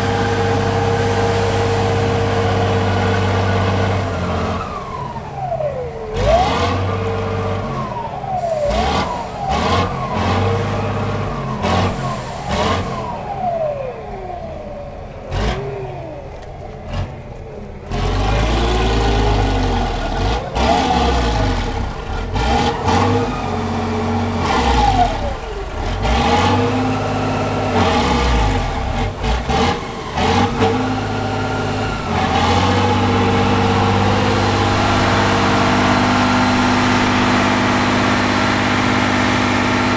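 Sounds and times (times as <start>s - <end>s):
truck diesel engine revving: 0.0s - 39.9s.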